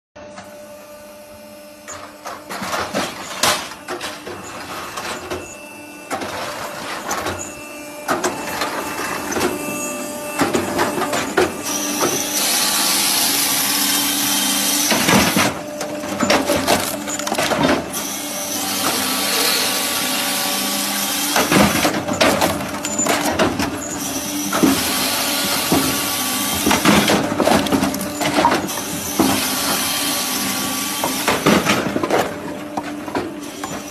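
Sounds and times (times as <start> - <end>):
machine hum: 0.2 - 33.9
loud cutting noise: 1.0 - 33.9.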